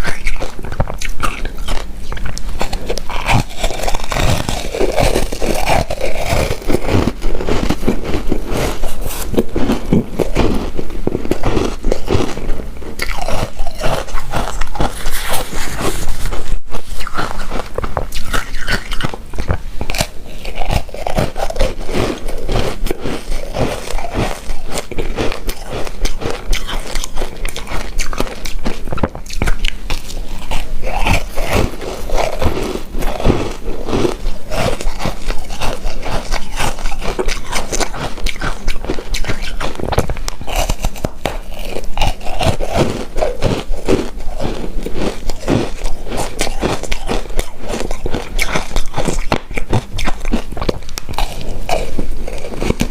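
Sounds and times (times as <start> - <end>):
close chewing with mouth clicks: 0.0 - 52.9.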